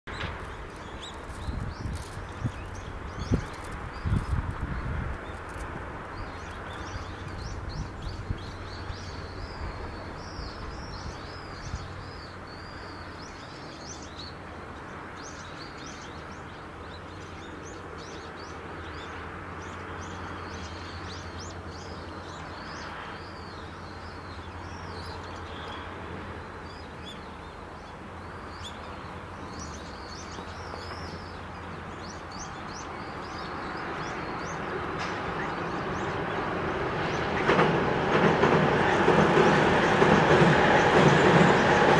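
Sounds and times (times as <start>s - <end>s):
small birds chirping: 0.1s - 37.6s
approaching train: 0.1s - 41.9s.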